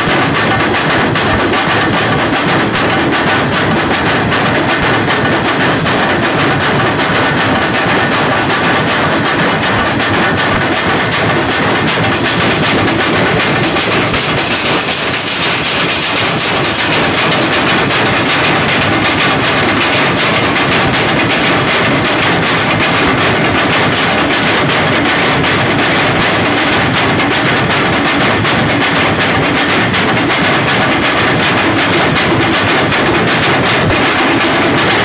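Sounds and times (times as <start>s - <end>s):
barrel drums beaten with sticks: 0.0s - 35.0s.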